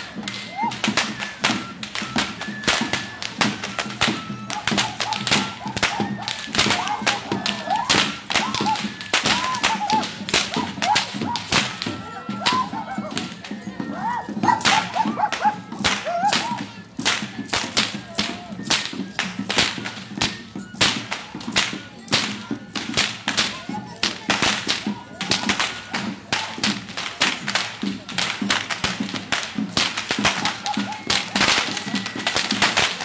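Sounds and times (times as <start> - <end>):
whips cracking: 0.3 - 11.8, 14.5 - 22.3, 24.2 - 33.0.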